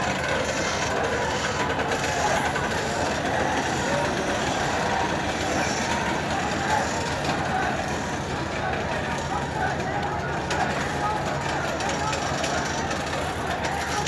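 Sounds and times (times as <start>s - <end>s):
chatter of many voices: 0.0s - 14.0s.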